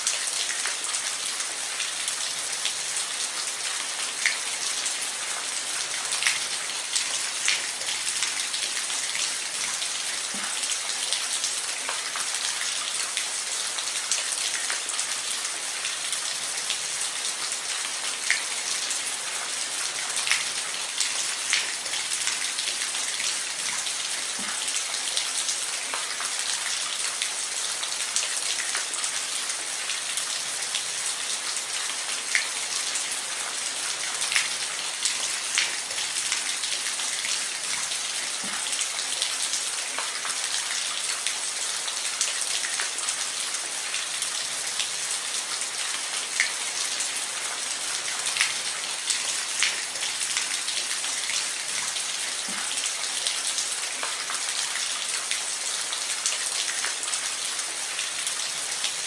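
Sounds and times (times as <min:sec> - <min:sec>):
rain on a roof: 0:00.0 - 0:59.0.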